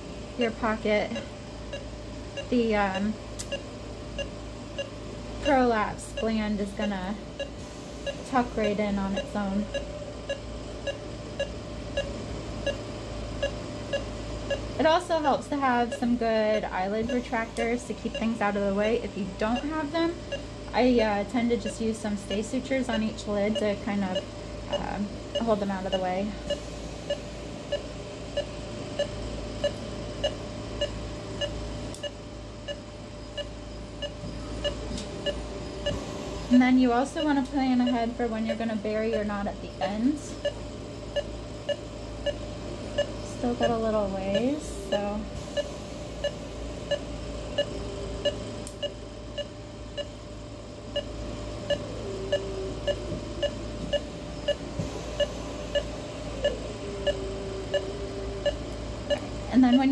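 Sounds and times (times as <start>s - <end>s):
low room hum: 0.0s - 59.9s
monitor beeping: 0.4s - 50.2s, 50.8s - 59.9s.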